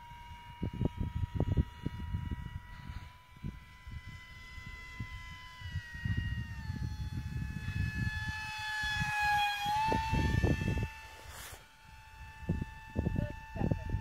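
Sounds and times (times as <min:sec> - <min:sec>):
electric jet motor whine: 0:00.0 - 0:14.0.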